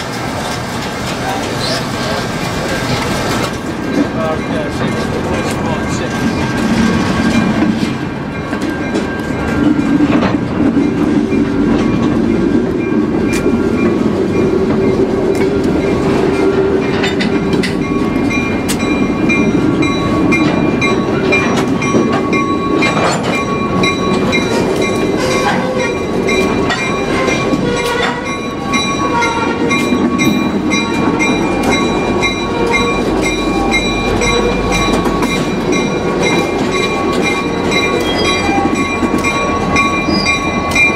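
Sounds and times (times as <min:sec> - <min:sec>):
train rumbling on track: 0:00.0 - 0:40.9
wheels clicking over rail joints: 0:00.0 - 0:40.9.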